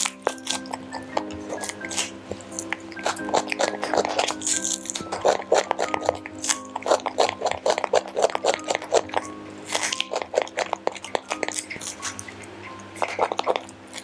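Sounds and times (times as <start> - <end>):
background music: 0.0 - 14.0
monkey crunching raw vegetable: 0.0 - 14.0.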